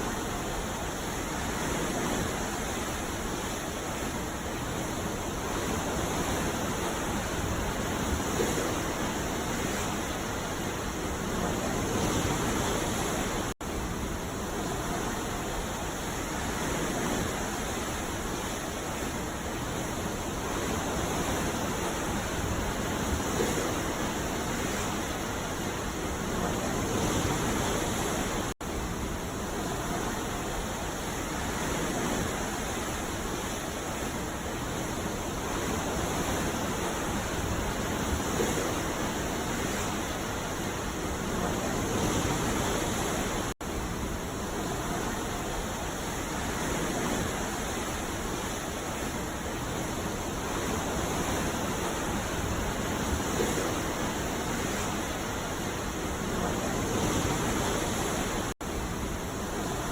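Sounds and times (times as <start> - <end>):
ocean waves hissing on beach: 0.0 - 59.9.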